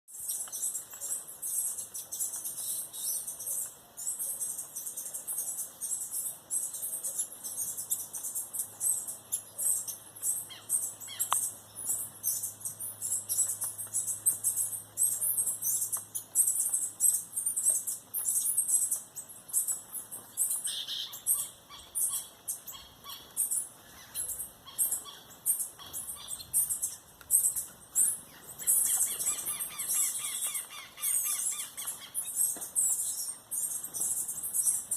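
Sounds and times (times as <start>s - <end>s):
birds chirping: 0.1s - 34.9s
lower fuller bird calls: 0.2s - 34.9s.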